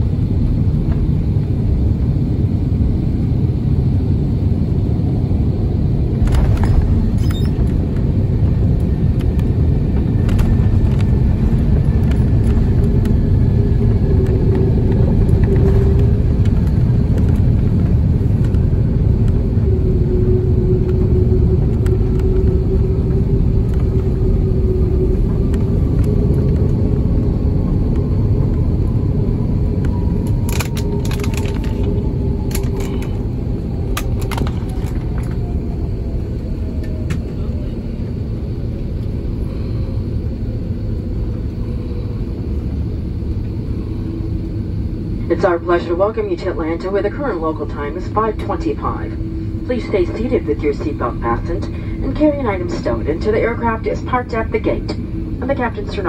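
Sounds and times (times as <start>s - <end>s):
aircraft wheels rumbling on runway: 0.0s - 56.0s
faint falling whine: 6.1s - 56.0s.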